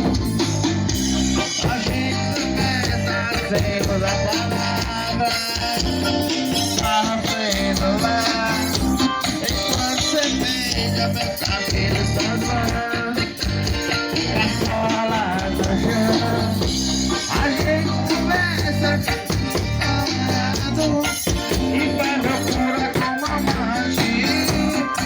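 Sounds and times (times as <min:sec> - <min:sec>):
upbeat song with guitar: 0:00.0 - 0:25.0.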